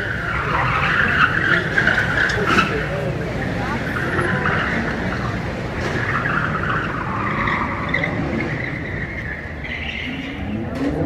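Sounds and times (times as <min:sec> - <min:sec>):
car tyres squealing and skidding: 0:00.0 - 0:11.0.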